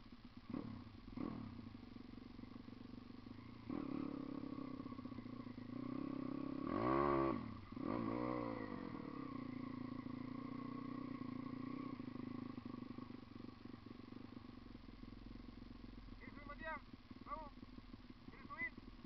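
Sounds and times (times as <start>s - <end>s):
dirt bike engine revving: 0.2s - 19.0s.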